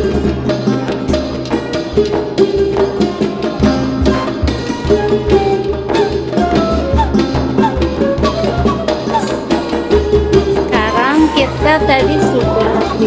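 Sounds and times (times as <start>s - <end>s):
melody over percussion beat: 0.0s - 13.0s.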